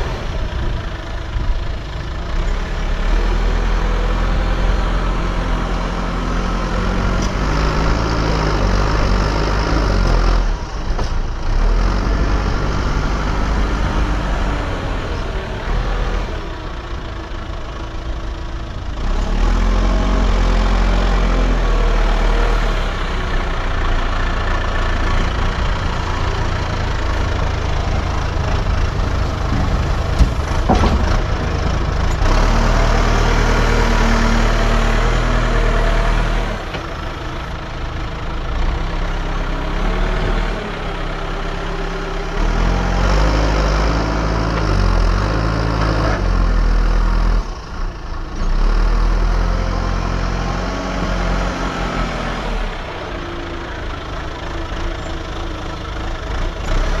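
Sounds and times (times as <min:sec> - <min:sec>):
diesel engine of earthmoving machine: 0:00.0 - 0:57.0.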